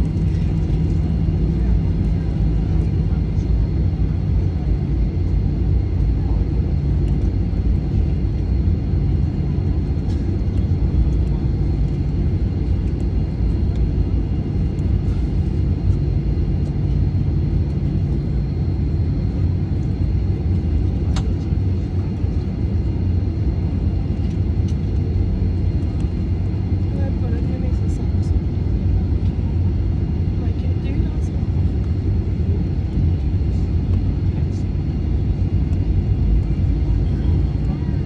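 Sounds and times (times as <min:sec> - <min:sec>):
aircraft cabin rumble: 0:00.0 - 0:38.0
jet engines at low power: 0:00.0 - 0:38.0.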